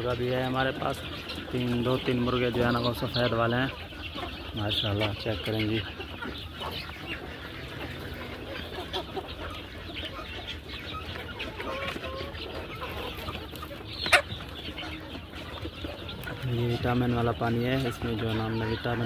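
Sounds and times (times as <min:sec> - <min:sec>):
chickens clucking and calling: 0:00.0 - 0:19.0.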